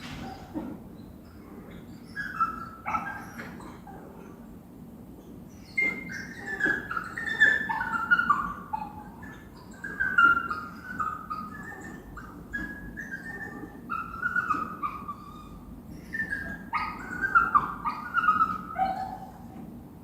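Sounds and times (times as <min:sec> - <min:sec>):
dog whining and whimpering: 0:01.8 - 0:04.4, 0:05.6 - 0:19.6.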